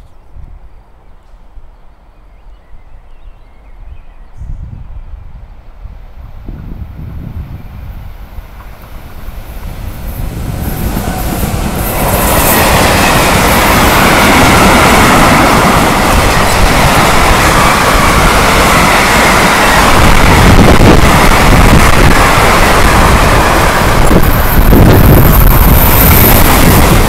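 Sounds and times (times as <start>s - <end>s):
freight train passing: 4.9s - 27.0s.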